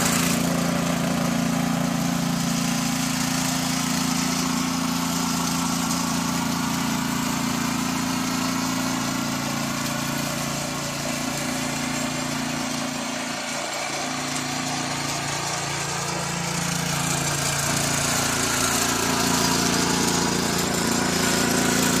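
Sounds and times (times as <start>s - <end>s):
small petrol engine running: 0.0s - 22.0s
tines churning soil: 0.0s - 22.0s.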